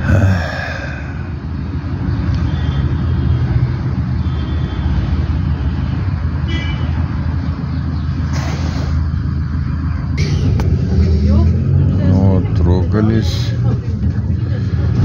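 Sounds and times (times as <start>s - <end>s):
minibus engine idling: 0.0s - 15.0s.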